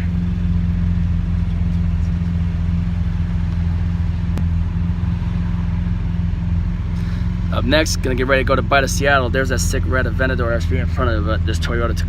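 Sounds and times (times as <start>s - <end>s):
car engine drone: 0.0s - 12.0s
road noise: 0.0s - 12.0s.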